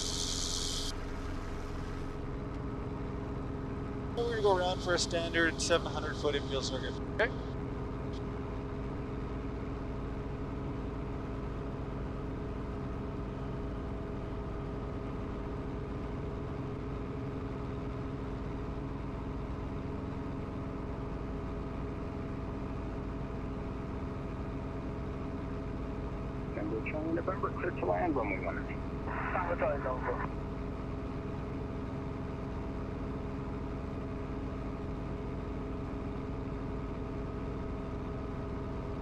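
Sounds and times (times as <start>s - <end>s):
helicopter engine and rotor hum: 0.0s - 39.0s.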